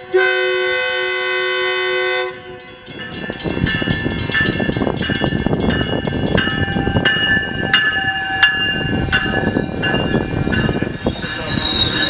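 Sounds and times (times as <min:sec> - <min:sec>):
railroad crossing bells ringing: 0:00.0 - 0:12.0
train rumbling: 0:00.0 - 0:12.0.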